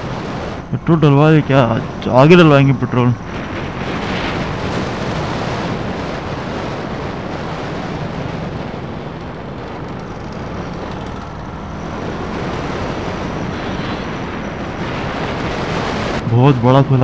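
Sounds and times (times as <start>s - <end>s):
motorcycle engine running: 0.0s - 16.2s
wind noise on microphone: 0.0s - 17.0s.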